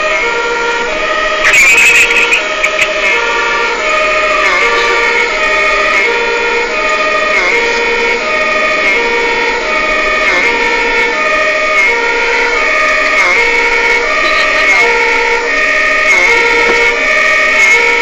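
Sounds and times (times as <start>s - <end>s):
second siren: 0.0s - 18.0s
two-tone fire engine siren: 0.0s - 18.0s.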